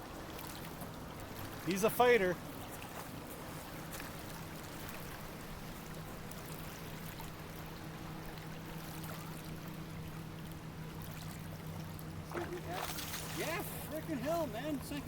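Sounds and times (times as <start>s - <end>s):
flowing water rushing: 0.0s - 15.0s
low steady hum: 0.0s - 15.0s.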